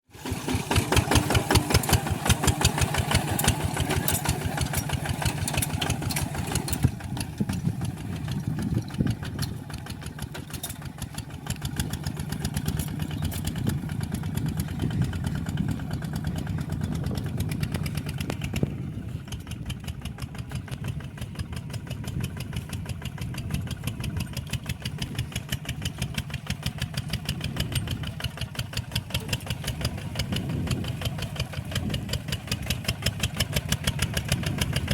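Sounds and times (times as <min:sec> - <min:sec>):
small tractor engine running: 0:00.1 - 0:34.9.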